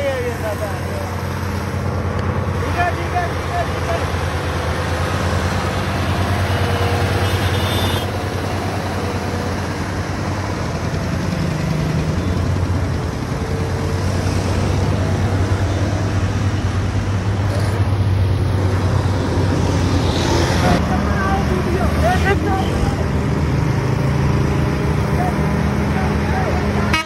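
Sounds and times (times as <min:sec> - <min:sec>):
truck diesel engine rumbling: 0:00.0 - 0:27.0.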